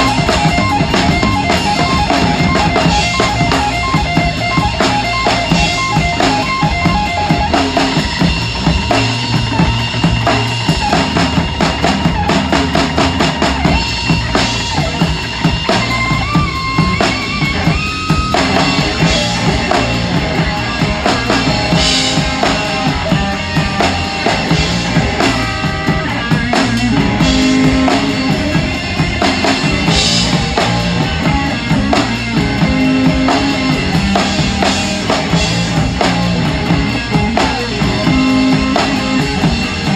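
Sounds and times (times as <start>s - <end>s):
bass drum: 0.0s - 39.9s
sustained guitar and bass tones: 0.0s - 39.9s.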